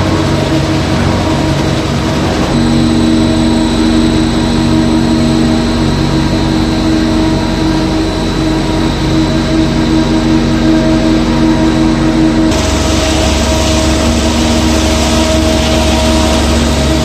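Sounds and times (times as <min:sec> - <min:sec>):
machine motors humming: 0:00.0 - 0:17.0
water churning in a tank: 0:00.0 - 0:17.0.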